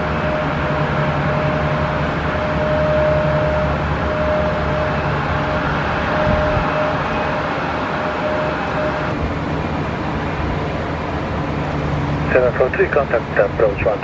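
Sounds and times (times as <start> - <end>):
jet aircraft rumble: 0.0 - 14.0.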